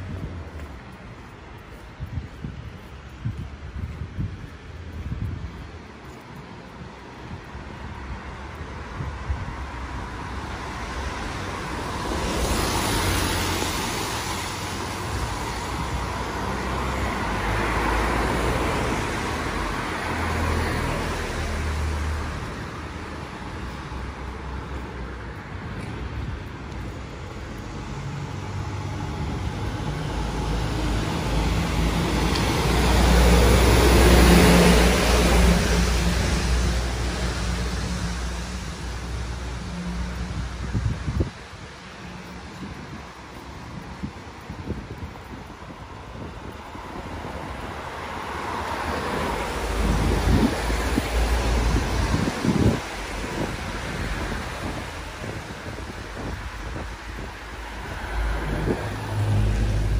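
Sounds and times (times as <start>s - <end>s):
cars passing: 0.0s - 59.9s.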